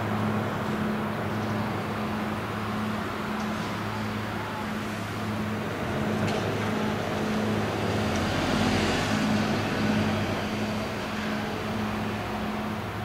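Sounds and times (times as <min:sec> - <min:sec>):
ship diesel engine hum: 0:00.0 - 0:13.0.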